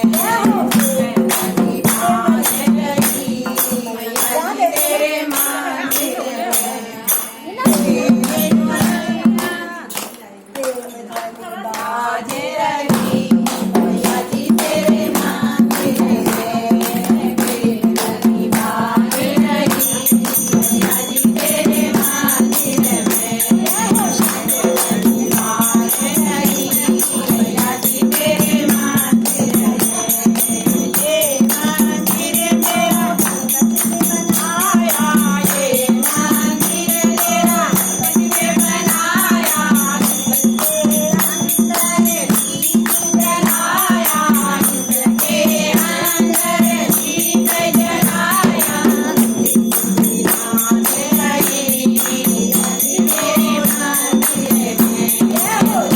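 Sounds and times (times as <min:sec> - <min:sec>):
group chanting: 0:00.0 - 0:55.9
metal percussion jingling: 0:00.0 - 0:55.9.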